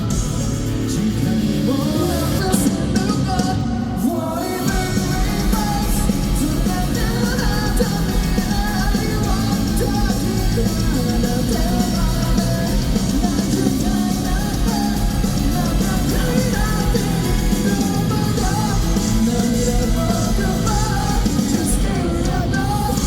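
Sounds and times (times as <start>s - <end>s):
person singing: 0.0s - 23.0s
rock band playing live: 0.0s - 23.0s.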